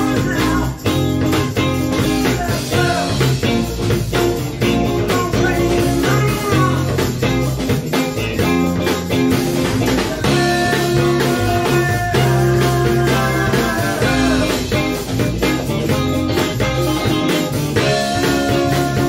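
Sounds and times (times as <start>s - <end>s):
drum kit: 0.0s - 19.0s
electric guitar: 0.0s - 19.0s
live blues-rock band: 0.0s - 19.0s.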